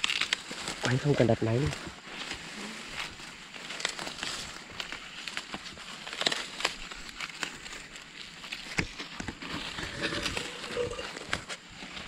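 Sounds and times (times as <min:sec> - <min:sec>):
corn stalks snapping: 0:00.0 - 0:12.0
dry corn leaves rustling: 0:00.0 - 0:12.0.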